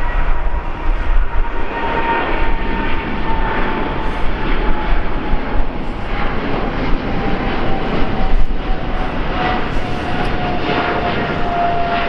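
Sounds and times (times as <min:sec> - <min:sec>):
jet engine rumble with whine: 0:00.0 - 0:12.0.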